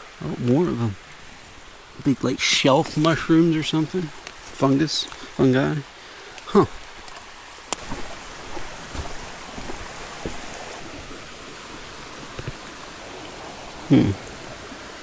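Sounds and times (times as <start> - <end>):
water rushing over stones: 0.0 - 15.0.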